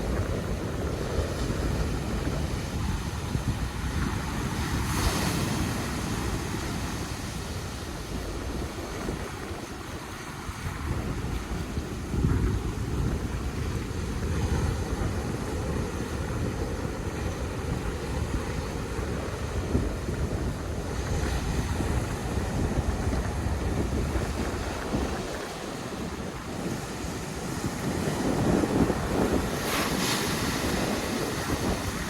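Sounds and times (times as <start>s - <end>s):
ocean surf washing on beach: 0.0s - 32.0s
wind rumbling on microphone: 0.0s - 32.0s.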